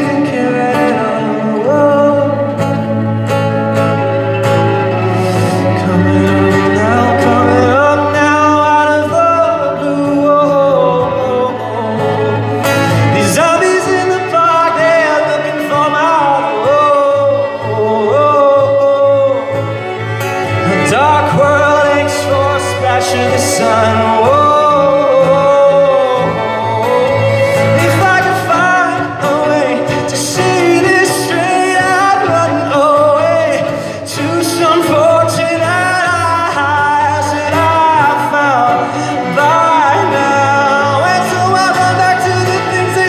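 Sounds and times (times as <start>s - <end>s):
instrumental accompaniment: 0.0s - 43.0s
man singing pop-rock song: 0.0s - 43.0s.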